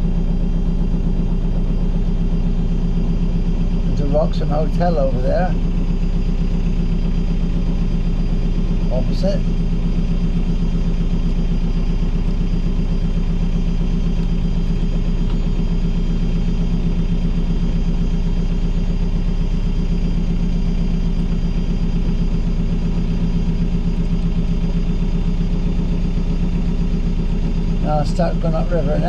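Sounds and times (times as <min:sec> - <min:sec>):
diesel boat engine running: 0:00.0 - 0:29.0.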